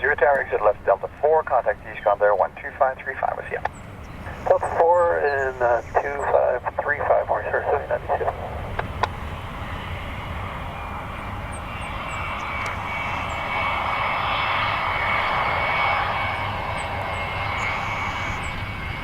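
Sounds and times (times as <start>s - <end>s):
jet engines whining and roaring: 0.0s - 19.0s.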